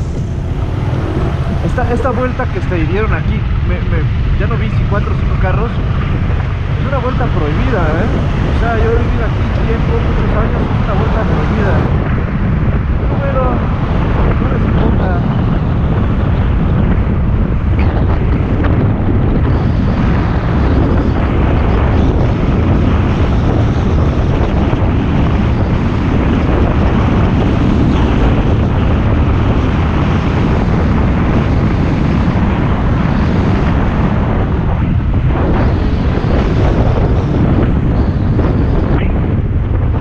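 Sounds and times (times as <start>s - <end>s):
road noise: 0.0s - 40.0s
wind rush on microphone: 0.0s - 40.0s.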